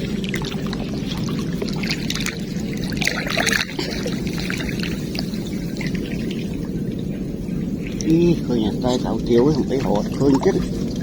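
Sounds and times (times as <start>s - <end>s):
steady low rumble: 0.0s - 11.0s
water running and splashing: 0.0s - 11.0s.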